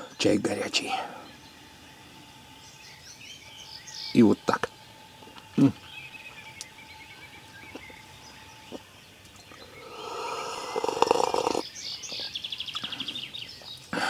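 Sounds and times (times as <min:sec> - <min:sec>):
small birds singing: 0:00.0 - 0:14.0.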